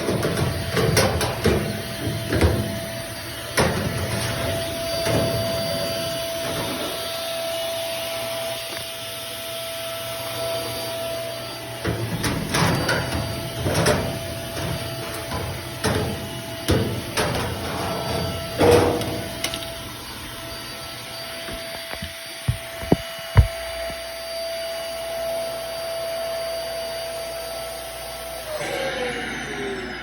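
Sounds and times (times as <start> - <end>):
clothes dryer running: 0.0 - 29.1.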